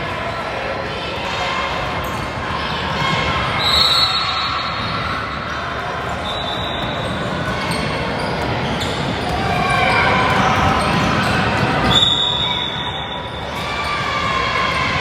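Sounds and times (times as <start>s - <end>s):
echoing voices in hall: 0.0s - 15.0s.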